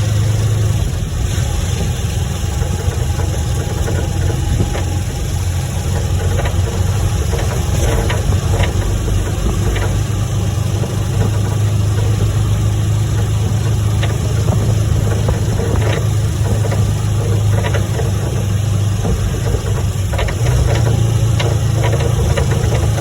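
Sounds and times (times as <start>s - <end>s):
steady low hum: 0.0s - 23.0s
faint clicks: 1.8s - 23.0s.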